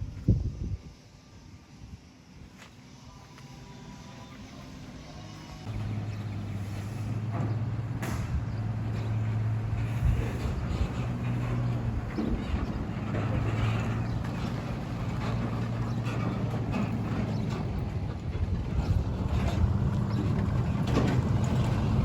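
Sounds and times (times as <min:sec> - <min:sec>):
heavy diesel engine running: 0:03.3 - 0:22.0.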